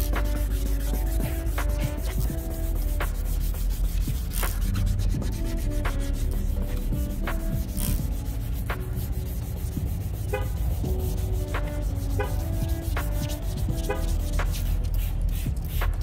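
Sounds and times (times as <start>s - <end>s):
light background music: 0.0s - 16.0s
wet sanding rubbing scrub: 0.0s - 16.0s.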